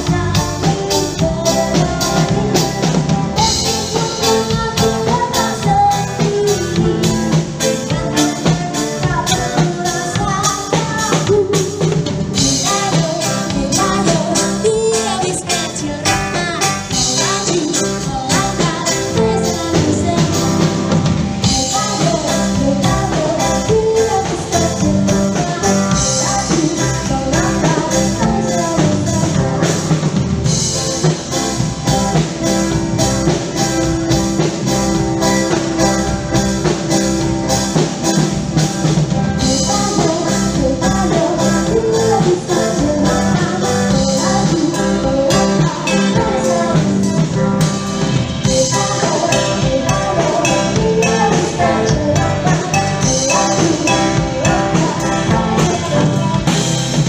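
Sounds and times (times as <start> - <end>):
song with singing and drums: 0.0 - 57.0.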